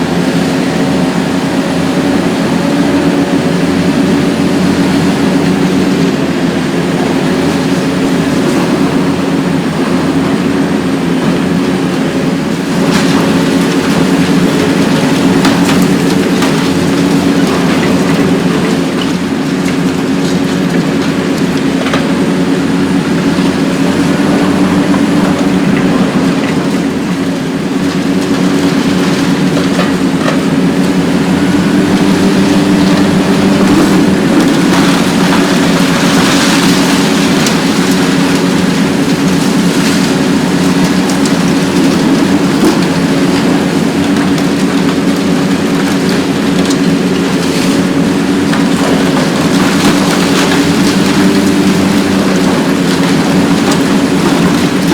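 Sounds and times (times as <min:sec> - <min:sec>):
excavator diesel engine humming: 0:00.0 - 0:54.9
demolition hiss and crackle: 0:02.3 - 0:54.9.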